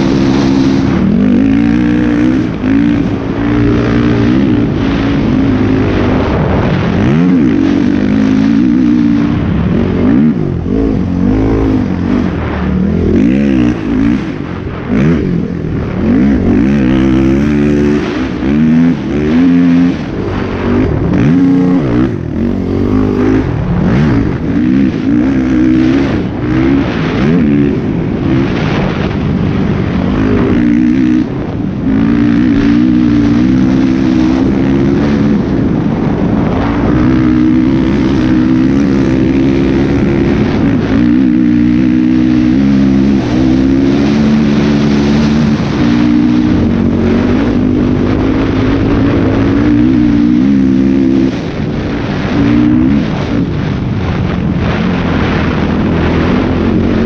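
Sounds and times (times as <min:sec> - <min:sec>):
quad bike engine revving: 0:00.0 - 0:57.0
wind rush on microphone: 0:00.0 - 0:57.0.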